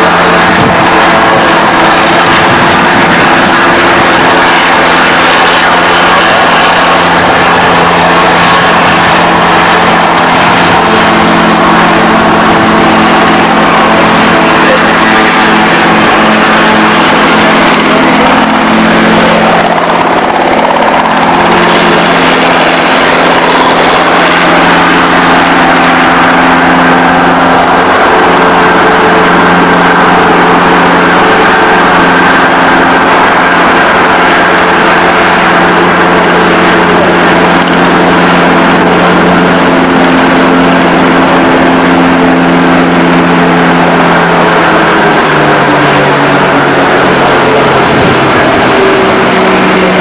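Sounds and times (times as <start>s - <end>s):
engine droning loudly: 0.0s - 50.0s.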